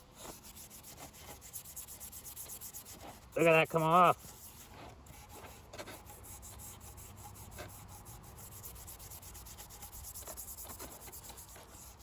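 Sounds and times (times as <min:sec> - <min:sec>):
scratch pad scrubbing metal: 0:00.0 - 0:12.0.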